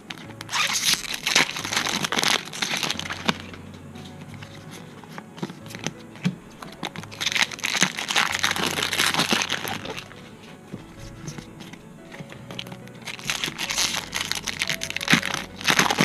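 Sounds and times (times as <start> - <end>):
foil wrappers crinkling and tearing: 0.0 - 16.0.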